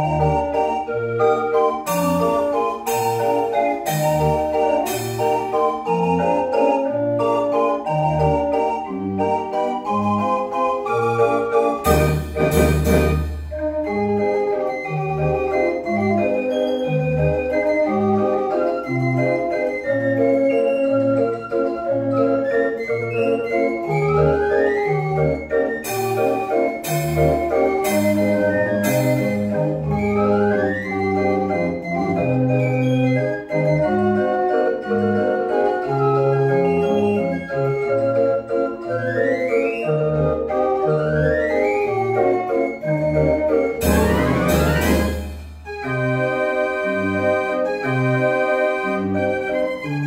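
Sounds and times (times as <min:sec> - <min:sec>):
street organ playing a tune: 0:00.0 - 0:50.0.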